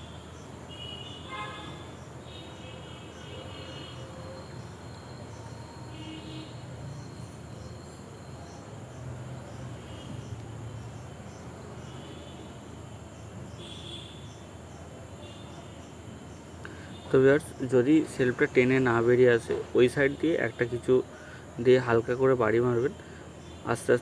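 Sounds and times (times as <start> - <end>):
faint insect chirping: 0.0 - 24.0.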